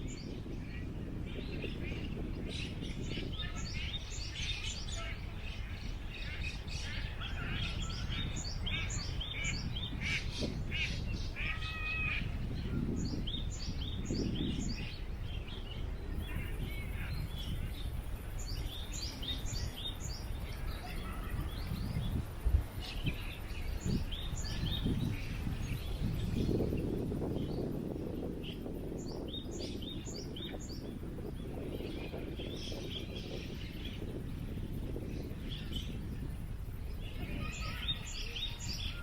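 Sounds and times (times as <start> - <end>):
low rumble of wind: 0.0 - 39.0
small birds chirping: 0.0 - 39.0.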